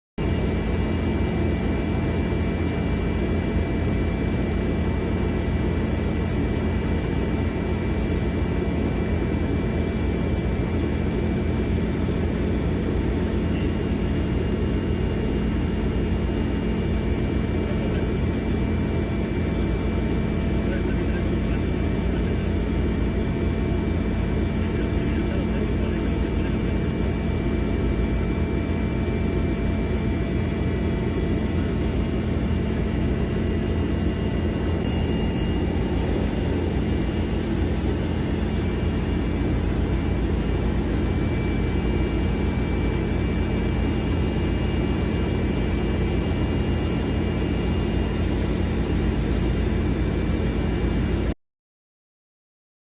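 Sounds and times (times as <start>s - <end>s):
helicopter engine rumble: 0.2s - 51.3s
high turbine whines: 0.2s - 51.3s.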